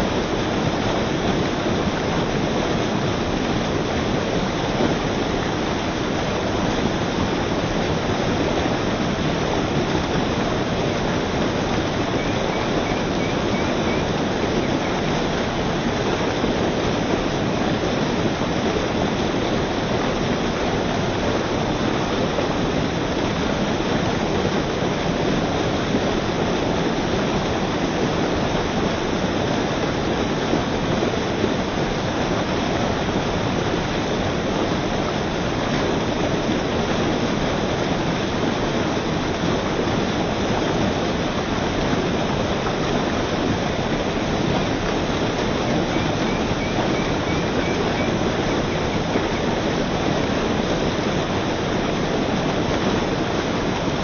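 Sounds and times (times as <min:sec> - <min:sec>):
heavy outflow pouring into water: 0:00.0 - 0:54.0
water rushing over rocks: 0:00.0 - 0:54.0.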